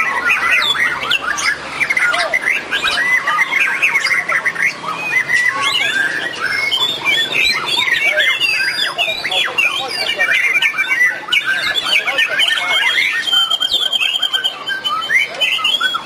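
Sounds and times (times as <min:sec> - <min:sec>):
songbirds whistling: 0:00.0 - 0:16.0.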